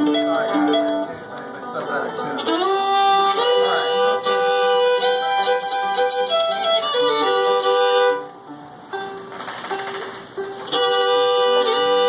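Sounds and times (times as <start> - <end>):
fiddle being tuned: 0.0 - 12.0.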